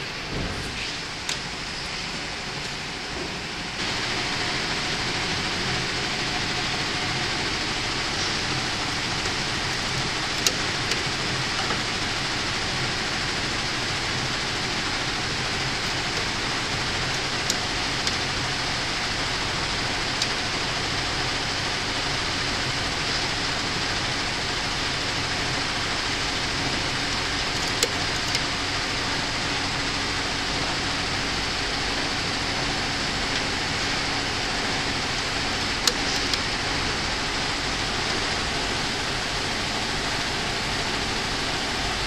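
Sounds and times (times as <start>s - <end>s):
embroidery machines running: 0.0s - 42.0s.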